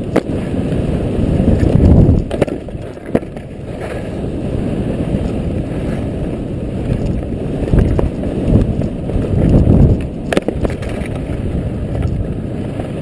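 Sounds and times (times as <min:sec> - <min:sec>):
skis sliding on snow: 0:00.0 - 0:13.0
wind buffeting microphone: 0:00.0 - 0:13.0.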